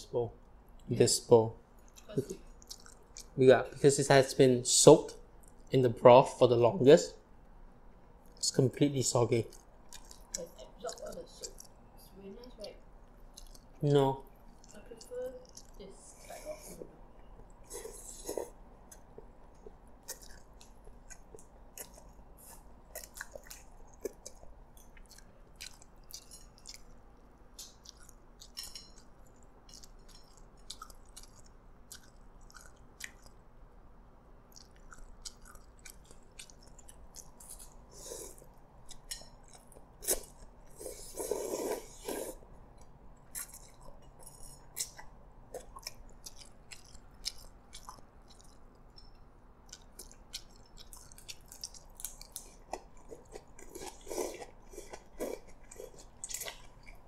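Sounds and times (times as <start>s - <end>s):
wet chewing with mouth clicks: 1.8s - 3.4s, 9.4s - 33.5s, 34.4s - 57.0s.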